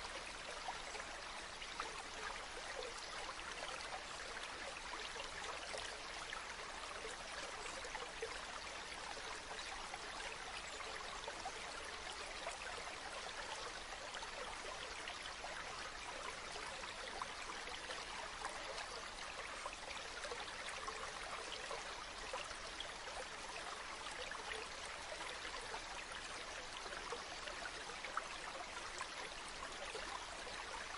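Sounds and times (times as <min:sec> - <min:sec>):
river flowing with splashes: 0:00.0 - 0:30.9.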